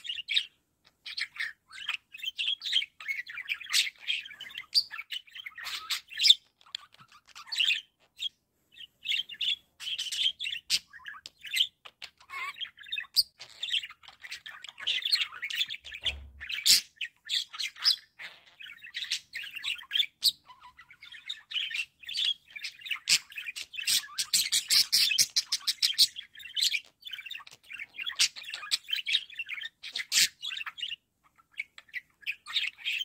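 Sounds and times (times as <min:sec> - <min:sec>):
budgerigars chattering and warbling: 0:00.0 - 0:33.0.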